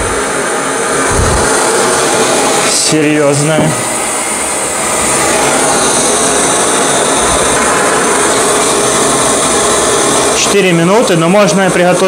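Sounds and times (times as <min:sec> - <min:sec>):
gas stove hissing: 0:00.0 - 0:12.0.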